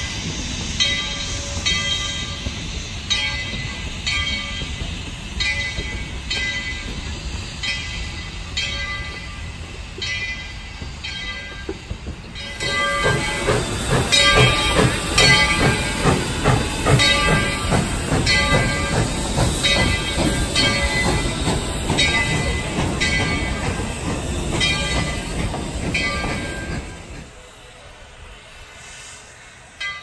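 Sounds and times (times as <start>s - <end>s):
locomotive exhaust beats: 0.0s - 27.4s
steam hissing: 0.0s - 30.0s.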